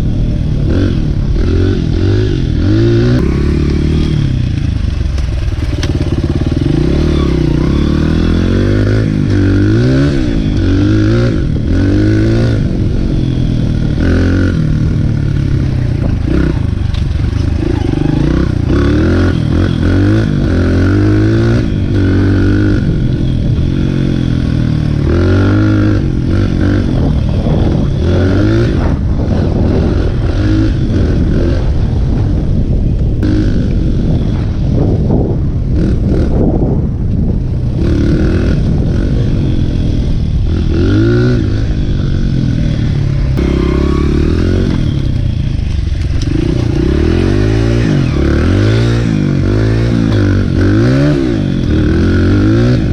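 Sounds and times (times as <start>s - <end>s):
dirt bike engine revving: 0.0s - 32.5s, 33.2s - 36.9s, 37.7s - 52.9s.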